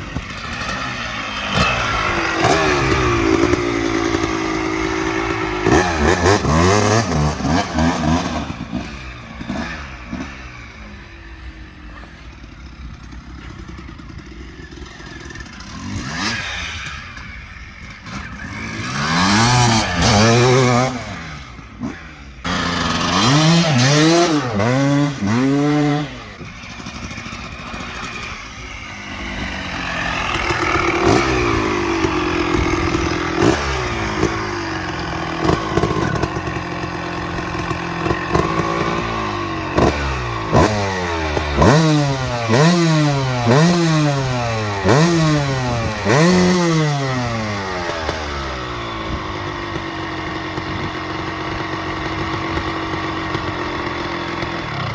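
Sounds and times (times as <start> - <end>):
two-stroke motorcycle engine revving: 0.0 - 54.9.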